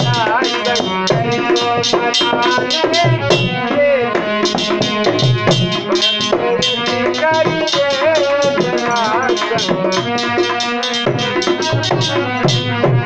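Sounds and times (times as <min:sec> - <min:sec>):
bending melodic lead: 0:00.0 - 0:13.0
hand drums beat: 0:00.0 - 0:13.0.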